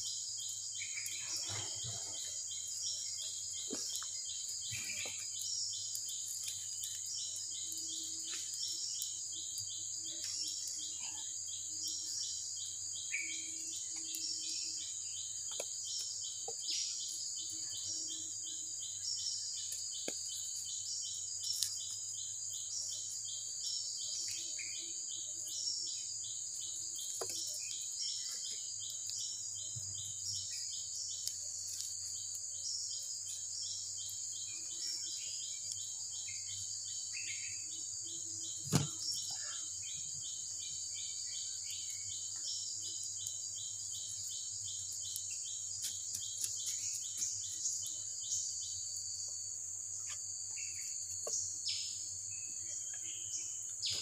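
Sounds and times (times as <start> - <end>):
insect pulsing rhythmically: 0.0 - 54.0.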